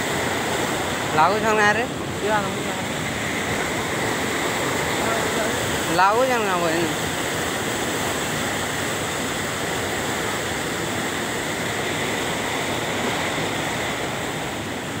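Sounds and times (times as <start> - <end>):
water rushing through channel: 0.0 - 15.0.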